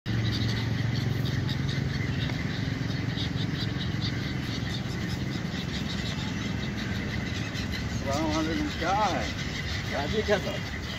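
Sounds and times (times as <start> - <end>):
gulls calling: 0.1 - 10.9
road traffic rumble: 0.1 - 10.9.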